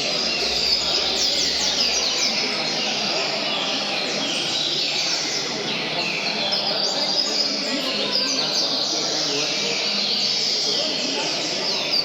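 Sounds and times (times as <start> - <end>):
low background murmur: 0.0 - 12.0.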